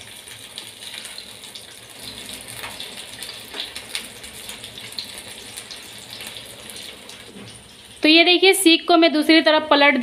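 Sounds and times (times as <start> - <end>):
kebabs sizzling in oil: 0.0 - 10.0.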